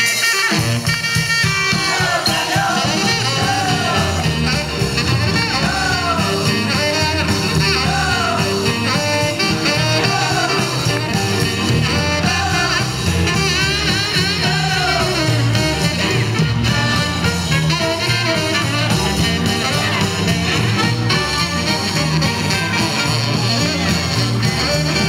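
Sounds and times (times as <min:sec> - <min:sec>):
swing music with guitar: 0:00.0 - 0:25.0.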